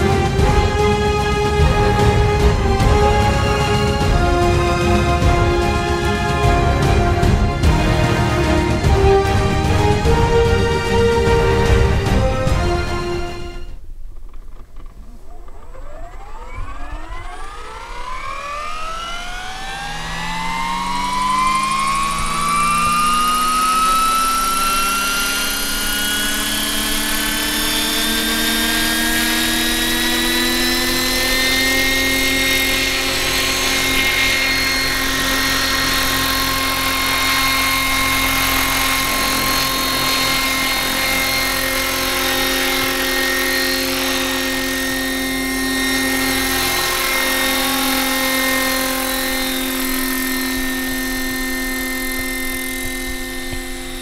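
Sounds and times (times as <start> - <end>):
electric model helicopter whine: 0.0 - 54.0
helicopter rotor noise: 0.0 - 54.0.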